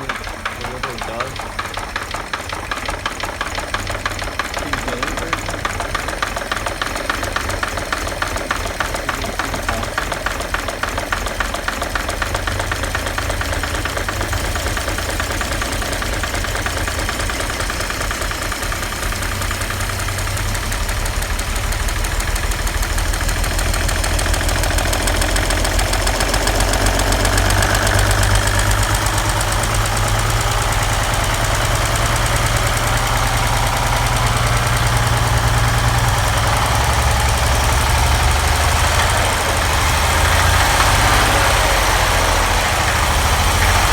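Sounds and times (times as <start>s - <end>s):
car engine knocking: 0.0s - 43.9s.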